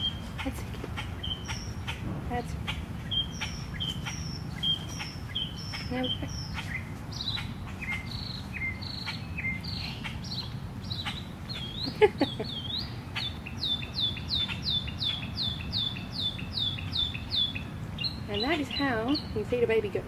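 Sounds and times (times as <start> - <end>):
low outdoor rumble: 0.0 - 20.0
songbird whistling: 3.0 - 19.4.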